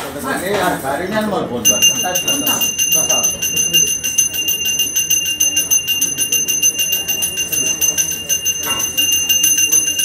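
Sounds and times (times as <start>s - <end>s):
hand bell rung rapidly: 1.6s - 10.0s.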